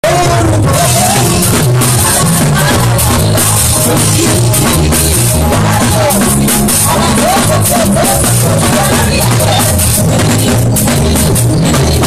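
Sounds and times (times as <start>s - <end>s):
band playing through loudspeakers: 0.0s - 12.0s
person singing: 0.0s - 12.0s.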